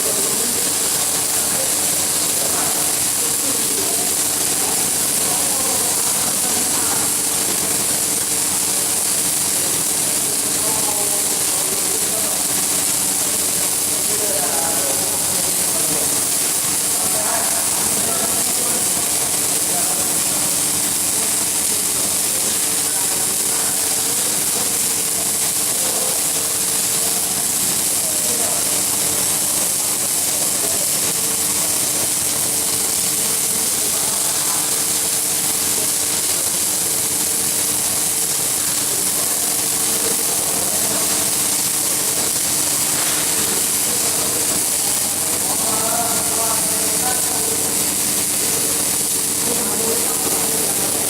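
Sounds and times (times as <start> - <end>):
welding arc hissing: 0.0 - 51.0.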